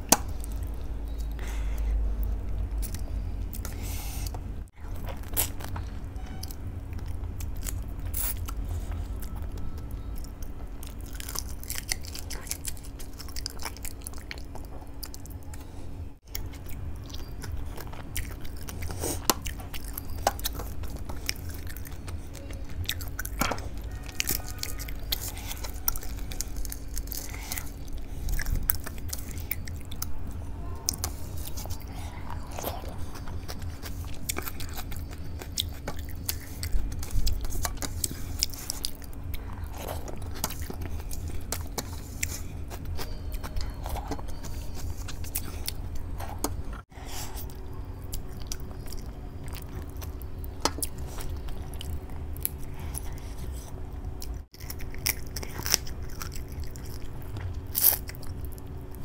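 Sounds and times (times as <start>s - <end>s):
faint steady hum: 0.0s - 59.0s
person chewing and eating: 0.0s - 59.0s.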